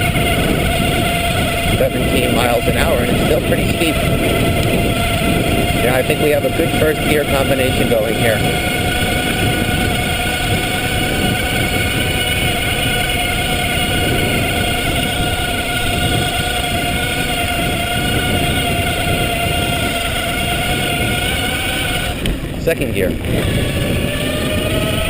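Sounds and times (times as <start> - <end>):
electric motor whining: 0.0 - 25.0
wind on microphone: 0.0 - 25.0.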